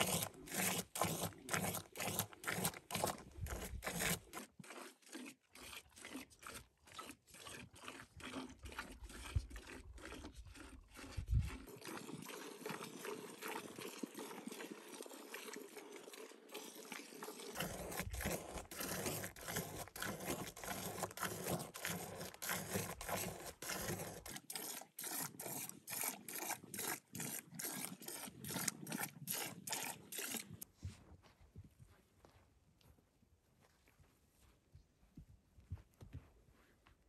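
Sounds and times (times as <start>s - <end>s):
milk squirting into metal pail: 0.0s - 30.6s.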